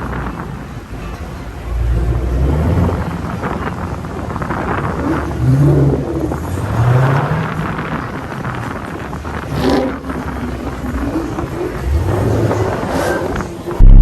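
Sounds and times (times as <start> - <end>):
car engines rumbling: 0.0 - 14.0
engine revving: 0.0 - 14.0.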